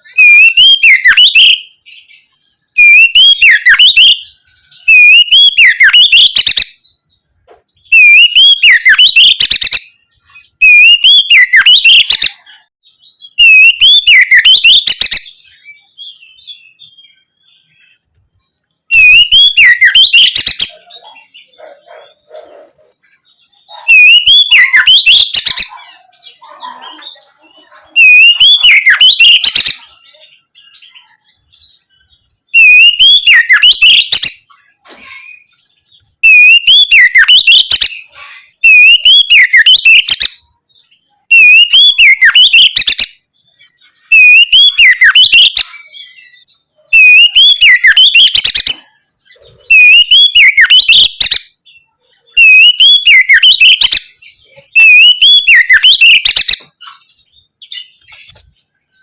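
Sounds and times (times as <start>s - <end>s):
bird singing whistled phrases: 0.0s - 7.2s, 7.8s - 18.1s, 18.9s - 21.7s, 23.2s - 34.5s, 35.1s - 59.0s.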